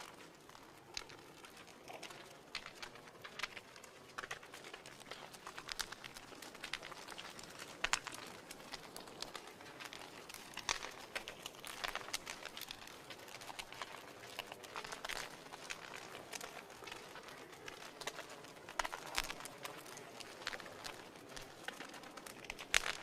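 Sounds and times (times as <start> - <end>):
fire popping: 0.0 - 23.0
wood fire crackling: 0.0 - 23.0.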